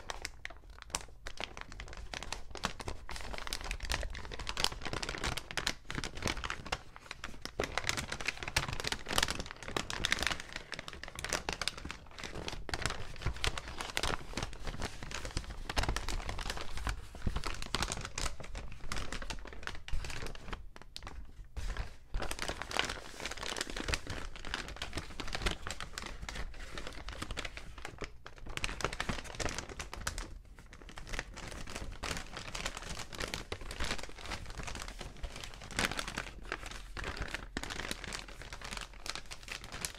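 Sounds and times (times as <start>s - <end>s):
paper bags crinkling: 0.0s - 39.9s.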